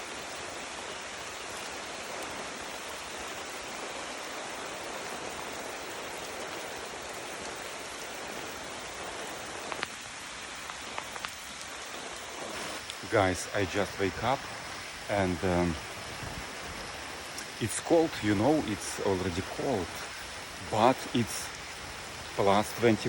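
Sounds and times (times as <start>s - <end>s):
heavy rain on surfaces: 0.0s - 23.0s.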